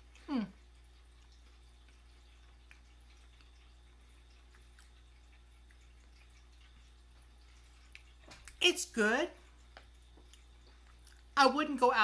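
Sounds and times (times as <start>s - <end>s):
soft cookie chewing clicks: 0.0s - 11.4s
low room hum: 0.0s - 12.0s.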